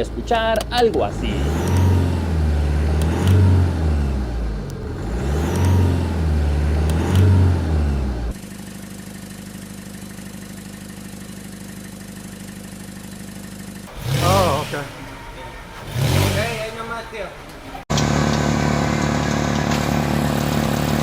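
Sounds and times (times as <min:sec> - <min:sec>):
car engine revving and idling: 0:00.0 - 0:21.0
exhaust pulsing: 0:00.0 - 0:21.0.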